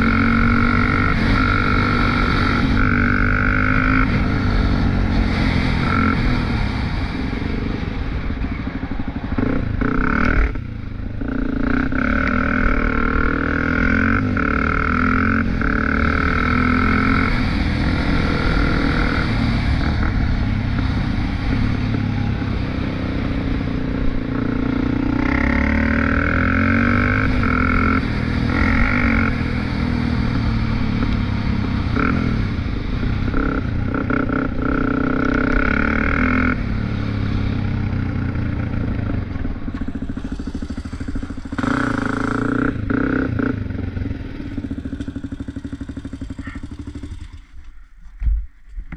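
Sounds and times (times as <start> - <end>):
small vehicle engine revving: 0.0 - 7.1, 9.2 - 47.7.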